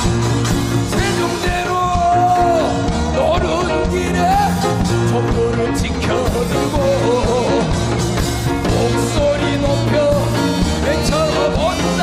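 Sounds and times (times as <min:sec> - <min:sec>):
electric bass: 0:00.0 - 0:12.0
live rock band: 0:00.0 - 0:12.0
man singing: 0:00.8 - 0:12.0.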